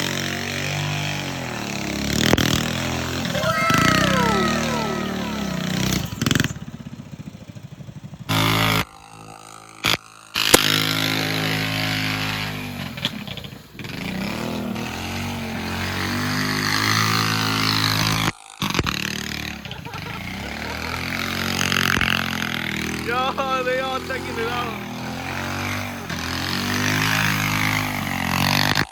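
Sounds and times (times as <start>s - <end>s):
mini-bike engine revving: 0.0s - 28.9s.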